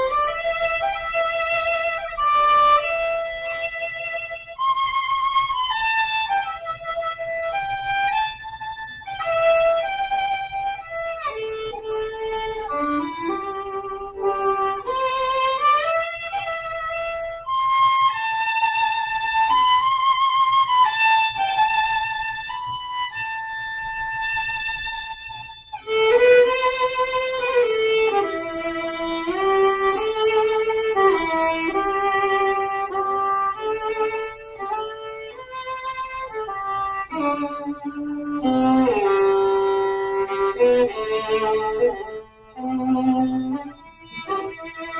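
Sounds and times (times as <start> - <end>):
violin playing slow melody: 0.0 - 44.9.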